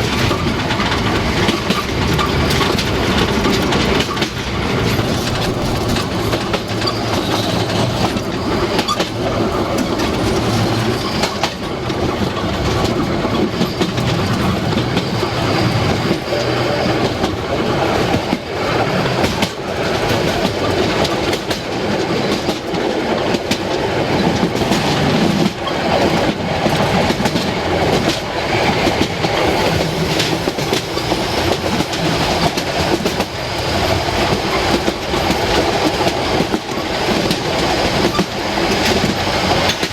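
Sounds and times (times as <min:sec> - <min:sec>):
train rumbling: 0:00.0 - 0:39.9
wheels clattering over rails: 0:00.0 - 0:39.9.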